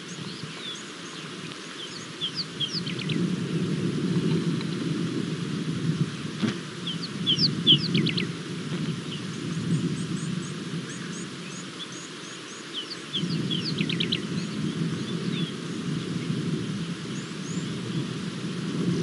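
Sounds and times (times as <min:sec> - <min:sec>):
birds chirping: 0:00.0 - 0:03.4, 0:06.0 - 0:18.4.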